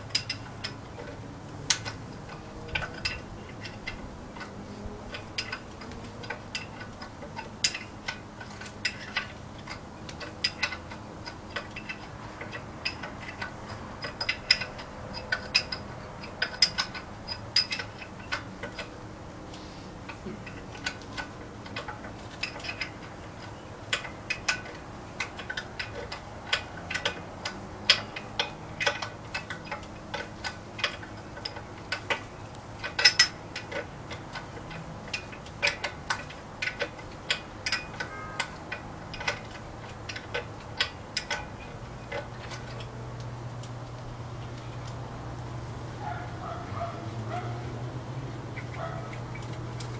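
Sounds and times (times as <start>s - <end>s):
ratchet wrench clicking: 0.0s - 19.0s, 20.1s - 43.8s.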